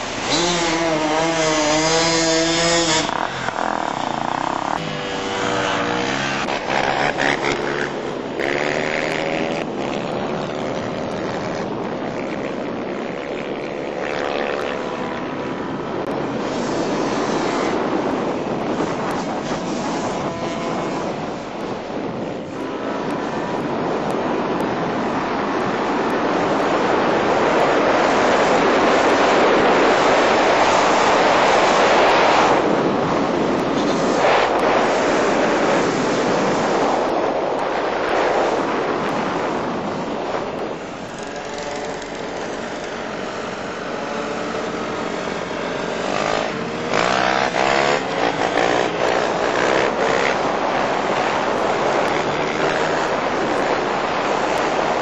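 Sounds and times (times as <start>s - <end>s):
motorcycle engines running: 0.0s - 55.0s
motorcycle passing and revving: 0.0s - 55.0s
wind on microphone: 0.0s - 55.0s.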